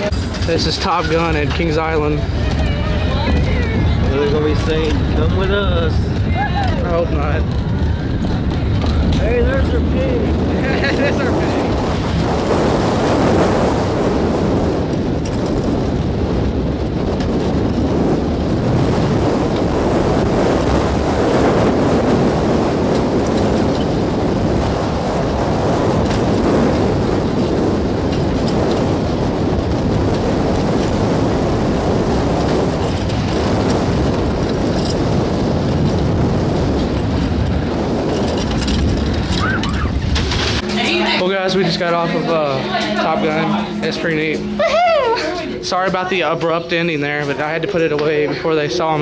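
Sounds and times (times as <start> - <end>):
roller coaster train rumbling: 0.0 - 49.0
wind rushing over microphone: 0.0 - 49.0.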